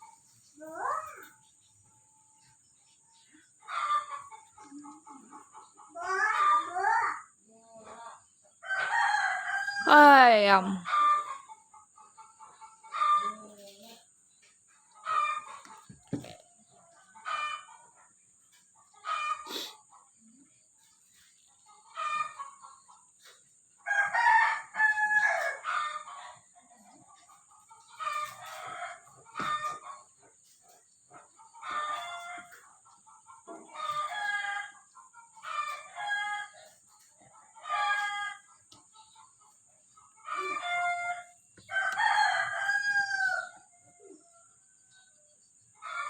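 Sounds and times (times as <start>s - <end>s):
chicken clucking and crowing: 0.0s - 46.0s.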